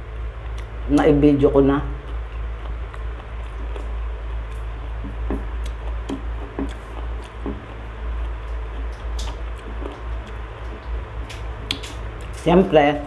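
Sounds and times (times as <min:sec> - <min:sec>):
steady low hum: 0:00.0 - 0:13.0
person chewing food: 0:00.3 - 0:01.1, 0:01.8 - 0:12.5.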